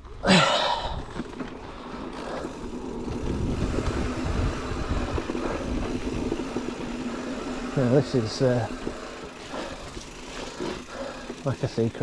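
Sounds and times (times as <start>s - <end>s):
electric bike motor running: 1.0s - 12.0s.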